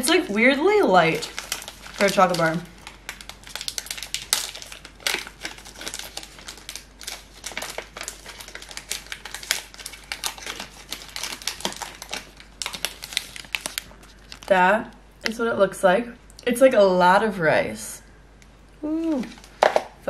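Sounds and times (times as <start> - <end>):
plastic wrapper crinkling: 0.0 - 15.4, 19.0 - 20.0.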